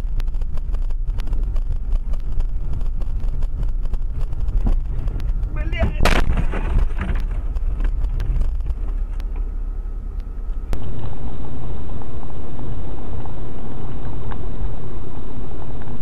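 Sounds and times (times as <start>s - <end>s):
car road and engine noise: 0.0s - 16.0s
dull steady rumble: 0.0s - 16.0s.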